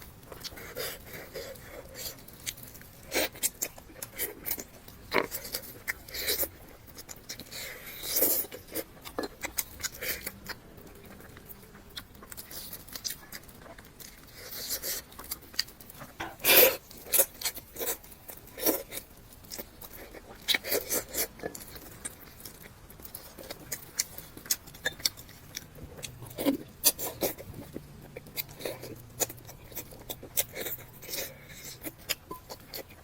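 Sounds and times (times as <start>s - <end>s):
person chewing and biting food: 0.2s - 33.0s.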